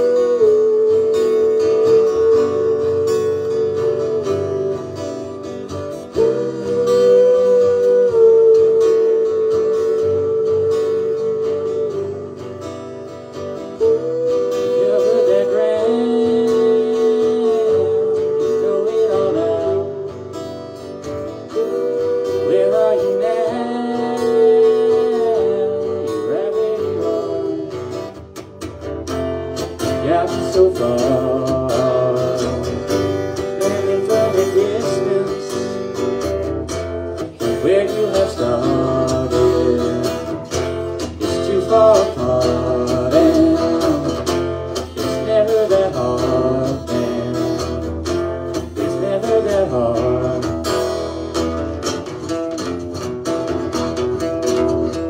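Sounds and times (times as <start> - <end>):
person singing: 0.0 - 12.7, 13.6 - 20.4, 21.4 - 28.2, 29.9 - 36.3, 37.3 - 51.4
acoustic guitars: 0.0 - 55.0.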